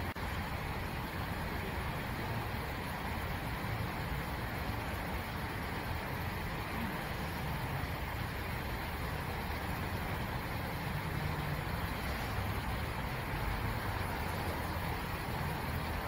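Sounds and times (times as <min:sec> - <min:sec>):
low engine hum: 0:00.0 - 0:16.0
traffic and engines running: 0:00.0 - 0:16.0.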